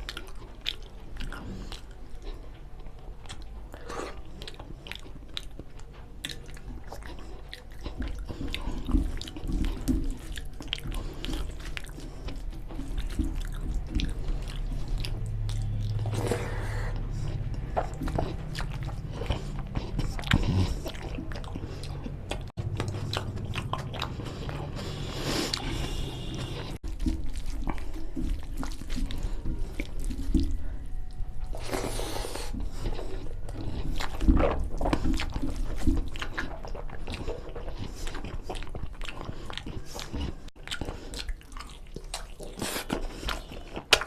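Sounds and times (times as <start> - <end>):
chewing and biting food: 0.0 - 44.0.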